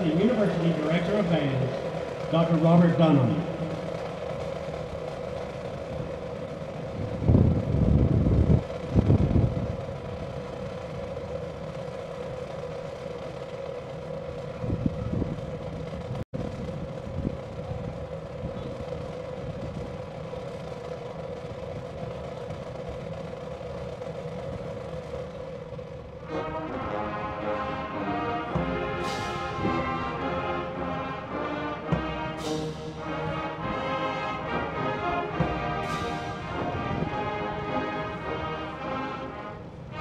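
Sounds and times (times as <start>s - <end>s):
loud low rumbles: 0.0s - 40.0s
stadium crowd hum: 0.0s - 40.0s.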